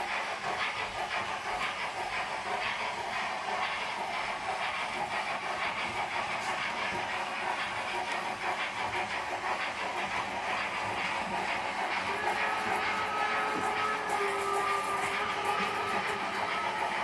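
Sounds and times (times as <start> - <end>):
model locomotive steam hiss: 0.0 - 17.0
wheels clicking on track: 0.0 - 17.0.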